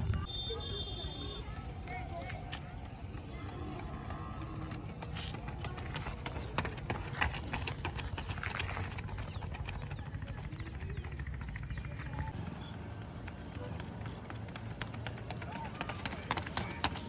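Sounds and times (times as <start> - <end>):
running footsteps on pavement: 0.0 - 17.0.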